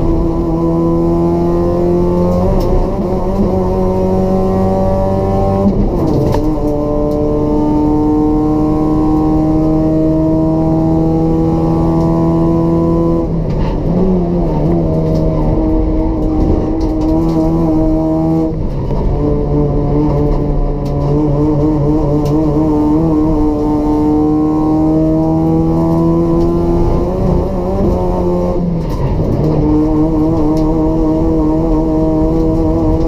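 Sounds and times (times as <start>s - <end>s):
race car engine accelerating: 0.0s - 33.0s.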